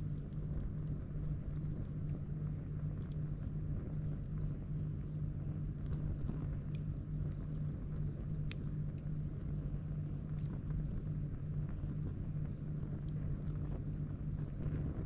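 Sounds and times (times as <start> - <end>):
campfire crackling and popping: 0.0 - 15.0
low rumble and hum: 0.0 - 15.0.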